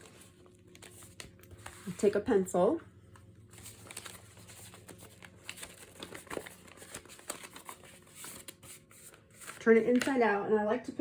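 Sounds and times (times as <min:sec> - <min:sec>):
paper rustling: 0:00.0 - 0:02.2, 0:03.5 - 0:10.2.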